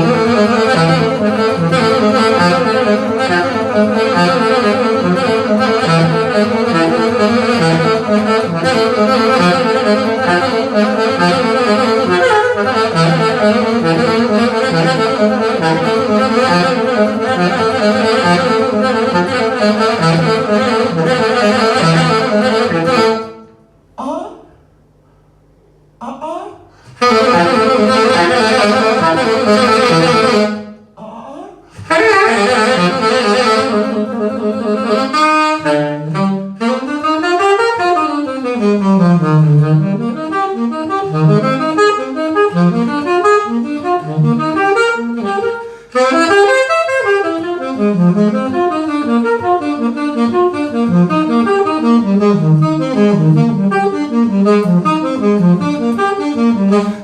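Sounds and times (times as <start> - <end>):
jazz saxophone playing: 0.0 - 23.7, 26.8 - 30.9, 31.7 - 57.0.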